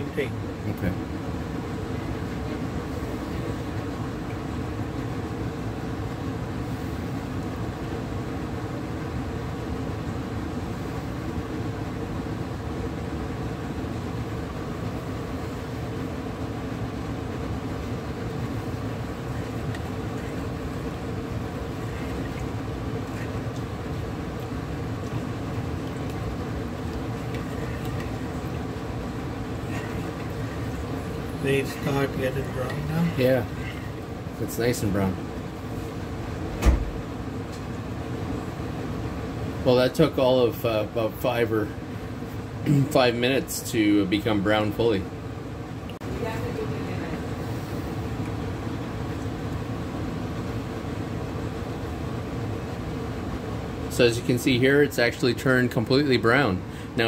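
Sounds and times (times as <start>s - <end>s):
low rumble and hum of gas flame: 0.0s - 57.0s.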